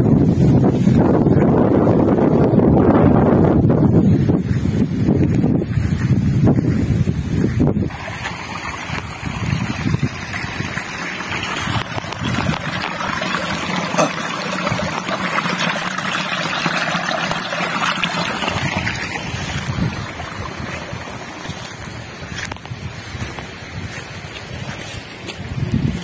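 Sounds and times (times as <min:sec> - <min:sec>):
water trickling through channel: 0:00.0 - 0:26.0
wind buffeting microphone: 0:00.0 - 0:26.0.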